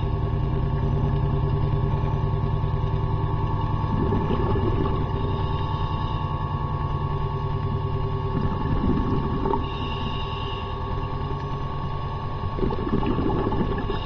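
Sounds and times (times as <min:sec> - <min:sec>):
underwater machinery hum: 0:00.0 - 0:14.0.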